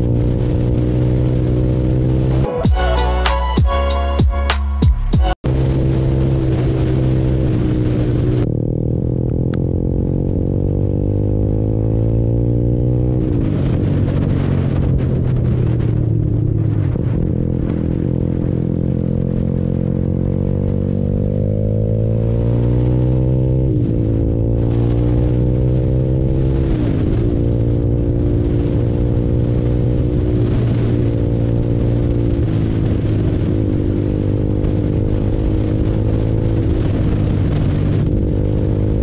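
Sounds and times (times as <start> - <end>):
wind and road noise: 0.0 - 2.6, 3.3 - 39.0
motorcycle engine shifting gears: 5.5 - 39.0.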